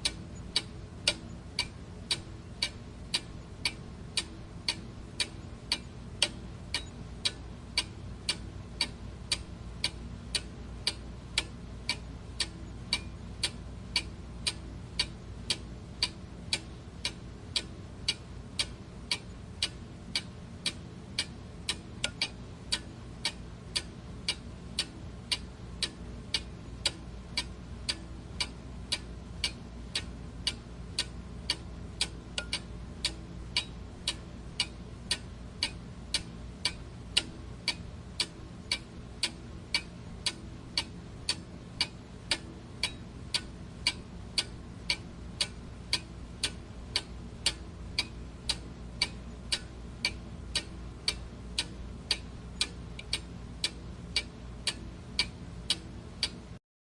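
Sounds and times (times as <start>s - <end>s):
clock ticking: 0.0s - 56.4s.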